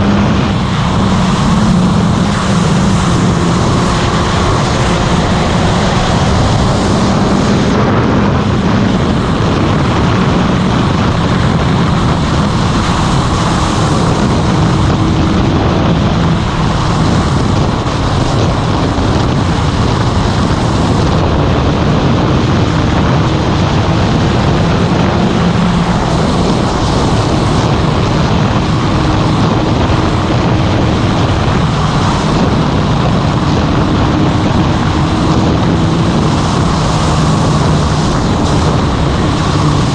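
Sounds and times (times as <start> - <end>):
motorcycle engine: 0.0 - 39.9
wind rush on microphone: 0.0 - 39.9.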